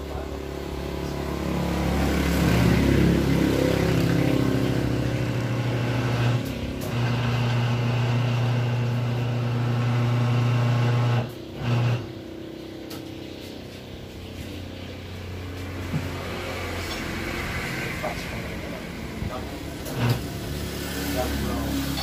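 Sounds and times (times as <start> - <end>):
tire changer motor humming: 0.0 - 22.0.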